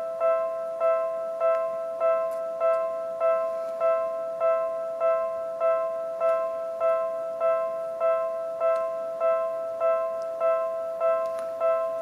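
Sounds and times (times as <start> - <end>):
level crossing alarm bell ringing: 0.0 - 12.0.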